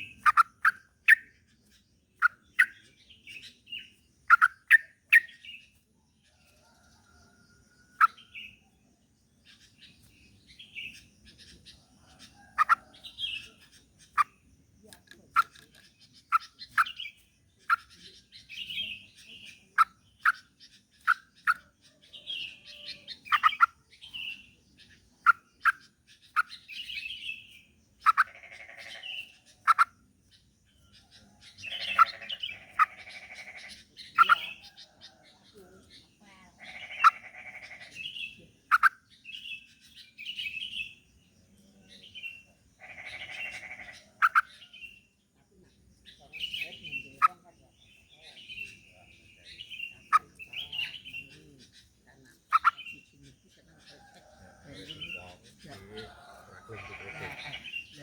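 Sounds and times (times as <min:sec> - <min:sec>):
bird chirping and warbling: 0:00.0 - 0:58.0.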